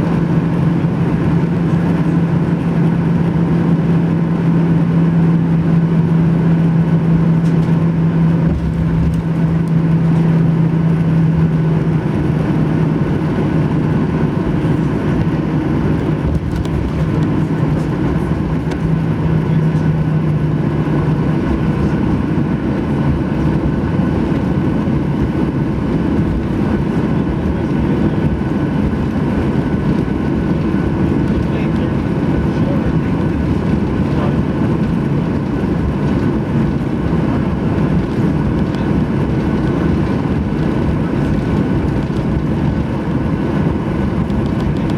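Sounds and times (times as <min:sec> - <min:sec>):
jet airliner cabin rumble: 0:00.0 - 0:44.9
steady low hum: 0:00.0 - 0:44.9.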